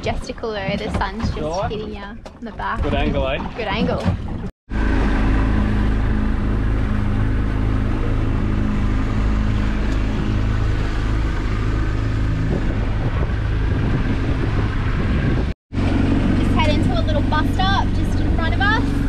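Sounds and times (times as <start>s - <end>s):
outboard motor droning: 0.0s - 19.0s
wind and water rushing: 0.0s - 19.0s.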